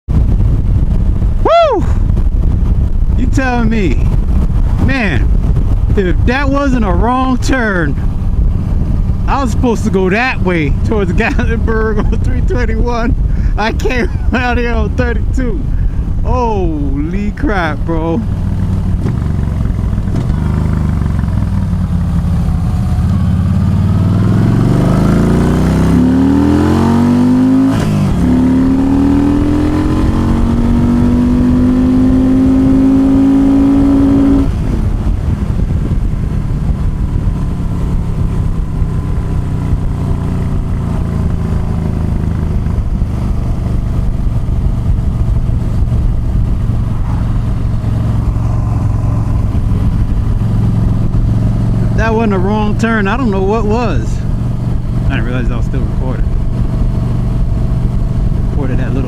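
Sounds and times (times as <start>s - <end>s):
motorcycle engine accelerating: 0.1s - 59.0s.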